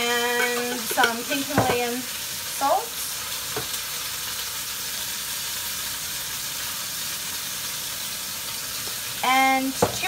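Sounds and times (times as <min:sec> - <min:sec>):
meat and onion sizzling: 0:00.0 - 0:10.0.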